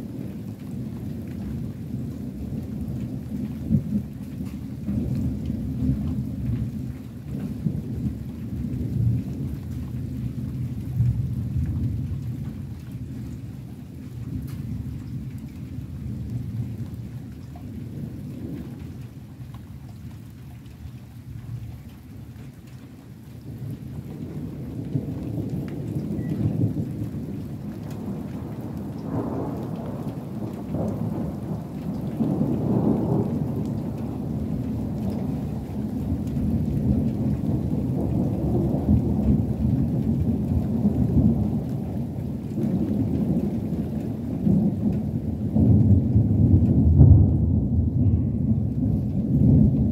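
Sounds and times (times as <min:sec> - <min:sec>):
thunder rumbling: 0:00.0 - 0:20.3, 0:23.5 - 0:49.9
rain falling: 0:00.0 - 0:49.9.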